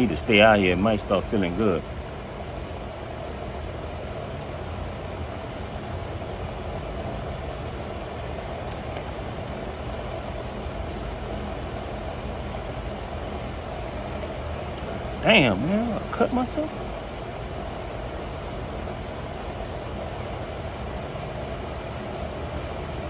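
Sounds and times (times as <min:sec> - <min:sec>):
constant hum: 0:00.0 - 0:23.0.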